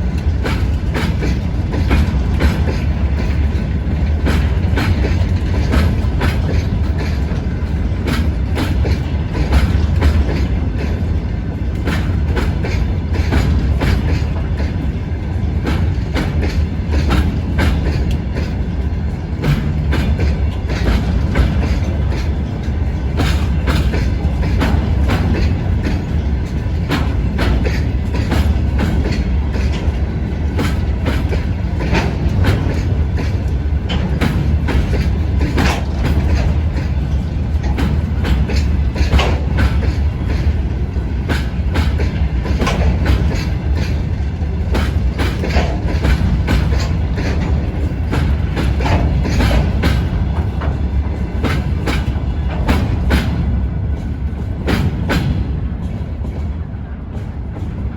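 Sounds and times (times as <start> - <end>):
freight train rolling past: 0.0 - 57.9
wheels clattering over rail joints: 0.0 - 57.9.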